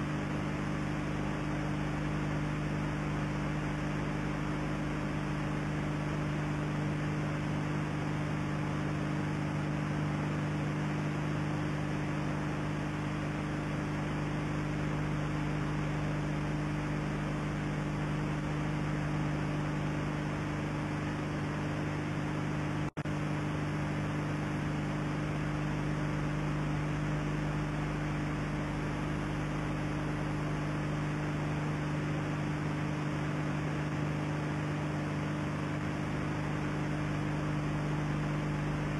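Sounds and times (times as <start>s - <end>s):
electrical hum with hiss: 0.0s - 38.9s.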